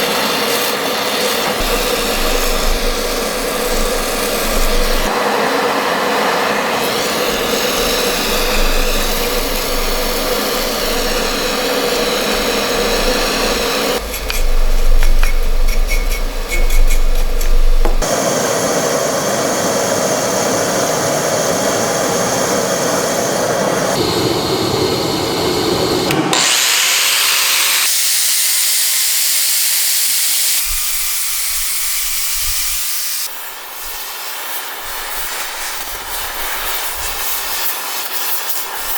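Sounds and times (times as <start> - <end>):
power tools working steel: 0.0 - 34.2.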